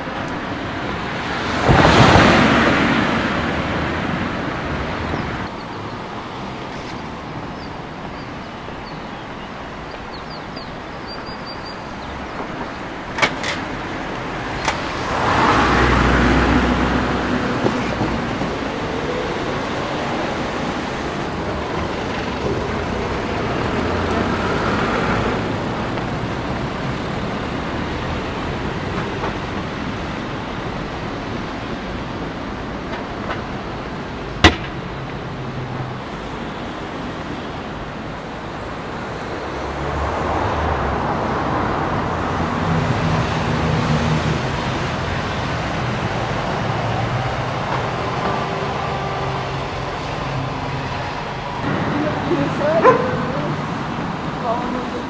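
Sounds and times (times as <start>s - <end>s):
road traffic hum: 0.0s - 55.0s.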